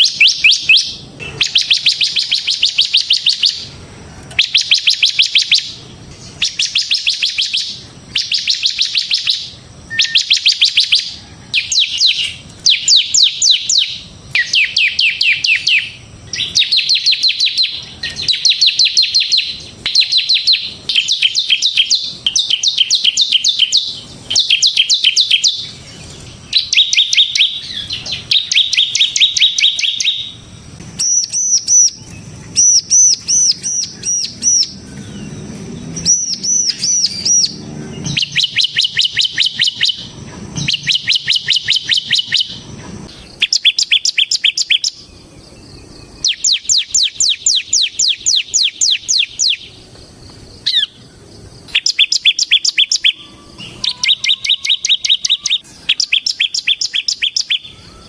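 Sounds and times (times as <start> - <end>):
bird singing rapid trills: 0.0 - 58.0.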